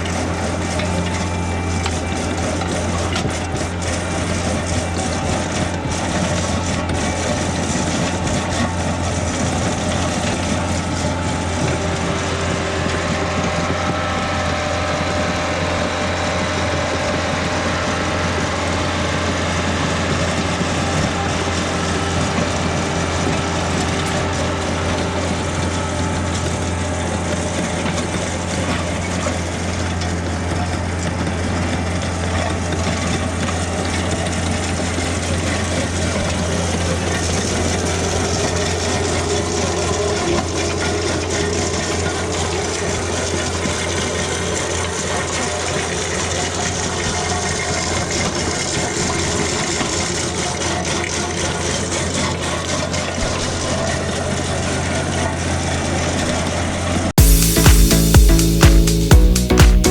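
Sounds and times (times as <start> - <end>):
heavy equipment engine running: 0.0 - 59.9.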